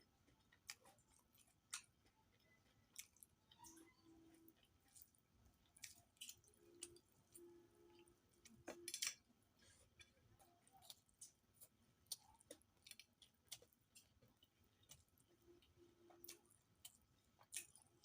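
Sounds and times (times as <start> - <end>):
chewing with wet mouth clicks: 0.2 - 9.2, 9.9 - 18.0.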